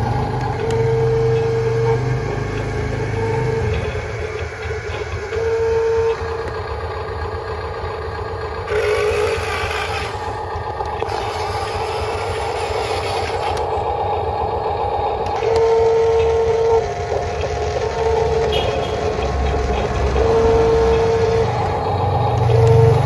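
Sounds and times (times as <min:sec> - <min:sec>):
electric motors and gears whirring: 0:00.0 - 0:23.0
thin steady whine: 0:00.0 - 0:23.0.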